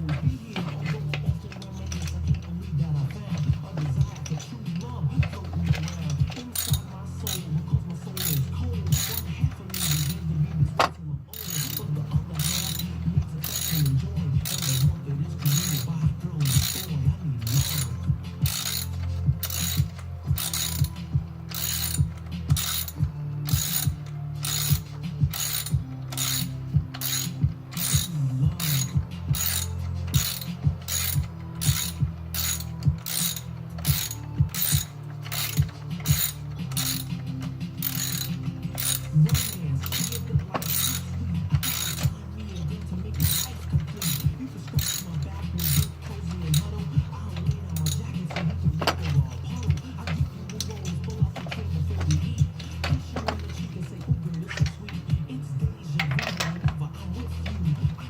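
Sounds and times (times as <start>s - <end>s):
ratchet wrench clicking: 0.0s - 58.0s.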